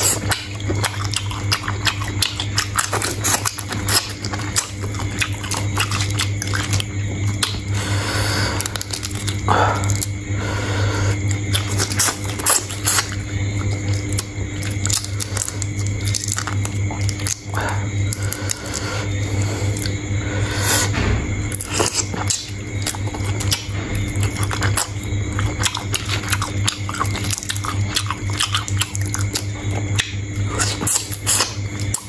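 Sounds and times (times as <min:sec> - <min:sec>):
person chewing shrimp: 0:00.0 - 0:10.4, 0:11.0 - 0:20.9, 0:21.5 - 0:32.0
crackles and clicks of eating: 0:00.0 - 0:32.0
steady low hum: 0:00.0 - 0:32.0.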